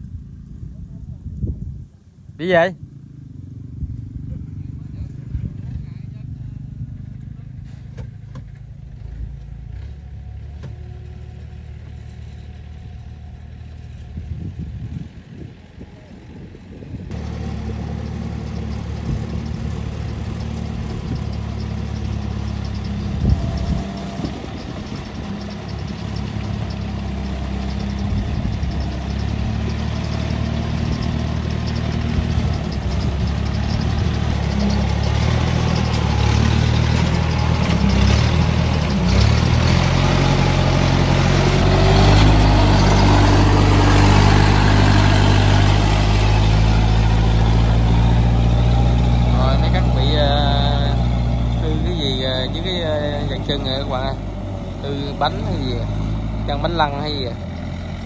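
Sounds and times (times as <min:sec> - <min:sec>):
farm machinery engines running: 0:04.3 - 0:58.0.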